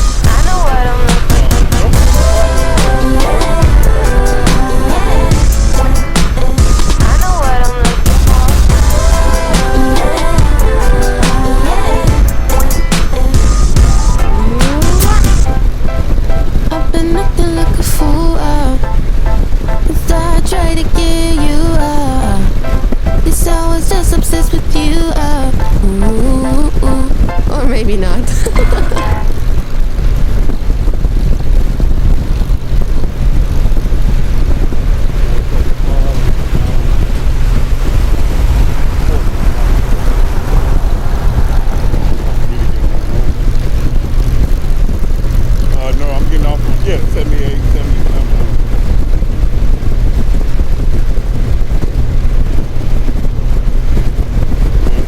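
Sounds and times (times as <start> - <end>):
motorcycle engine rumble: 0.0 - 55.0
wind buffeting microphone: 0.0 - 55.0.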